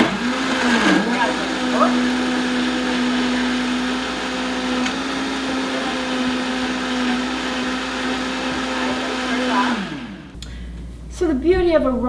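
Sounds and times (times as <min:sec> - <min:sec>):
blender churning ice: 0:00.0 - 0:10.4.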